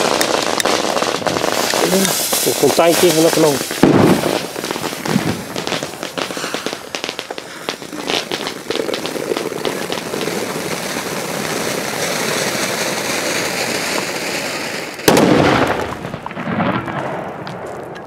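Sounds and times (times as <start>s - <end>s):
firework fountain crackling and hissing: 0.0s - 18.0s.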